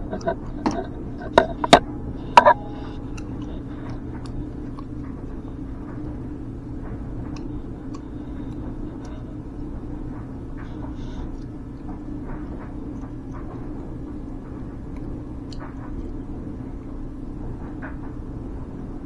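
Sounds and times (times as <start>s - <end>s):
faint clicks and taps: 0.0s - 16.9s
machine hum with low rumble: 0.0s - 19.0s.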